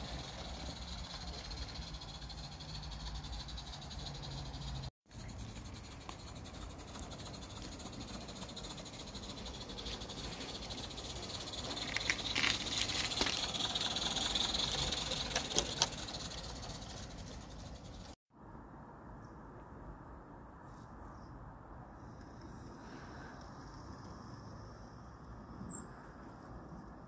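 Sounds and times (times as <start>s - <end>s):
model train hiss and rattle: 0.0s - 18.2s, 22.0s - 26.9s.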